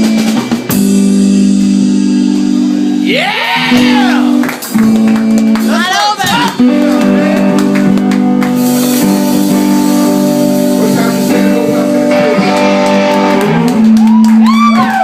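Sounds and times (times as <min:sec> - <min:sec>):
live band with electric guitar: 0:00.0 - 0:15.0.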